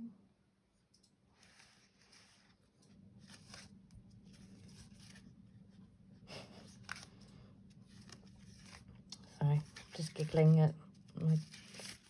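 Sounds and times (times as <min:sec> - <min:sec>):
soft strokes on paper: 0:01.3 - 0:12.0
paper rustling and scraping: 0:01.4 - 0:05.8, 0:06.6 - 0:12.0.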